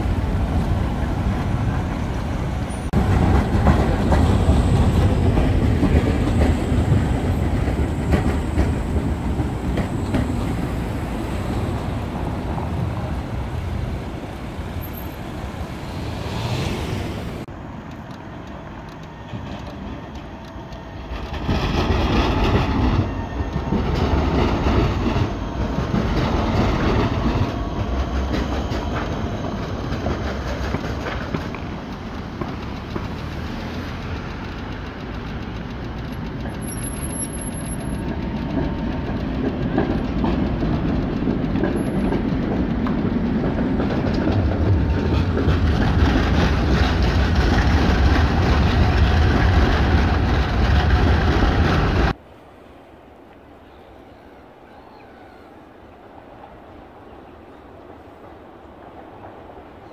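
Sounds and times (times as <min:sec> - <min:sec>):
car traffic: 0:00.0 - 0:59.9
tram wheels whining: 0:00.0 - 0:59.9
trams running on rails: 0:00.0 - 0:59.9.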